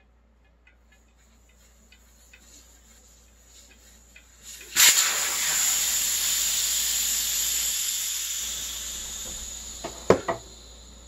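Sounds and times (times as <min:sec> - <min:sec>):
air hissing out of a tyre valve: 0:01.2 - 0:11.0.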